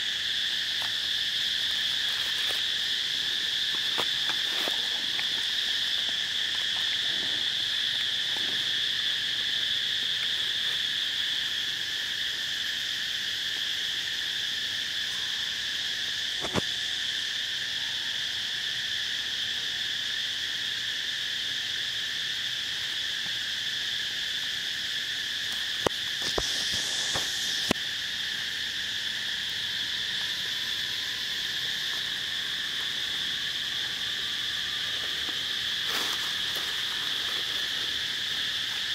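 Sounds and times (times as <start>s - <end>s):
shrill insect chorus: 0.0s - 38.9s.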